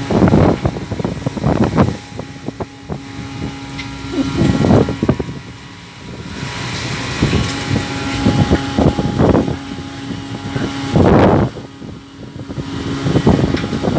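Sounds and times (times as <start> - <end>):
boat engine hum: 0.0 - 13.9
wind and water noise: 0.0 - 13.9.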